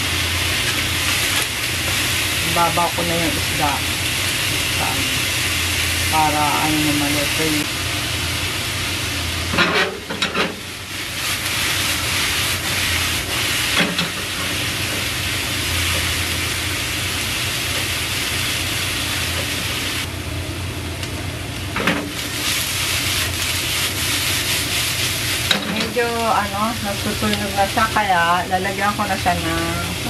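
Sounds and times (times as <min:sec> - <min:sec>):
fish and vegetables sizzling: 0:00.0 - 0:20.1, 0:21.8 - 0:30.0.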